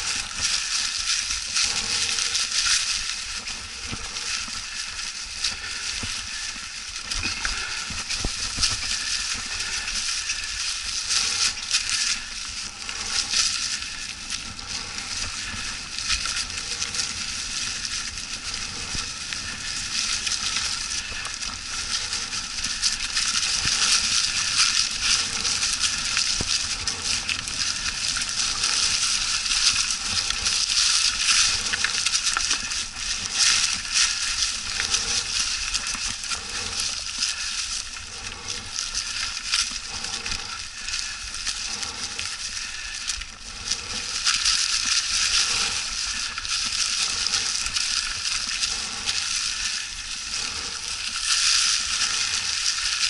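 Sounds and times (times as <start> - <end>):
bike tyres crunching dry leaves: 0.0 - 53.0.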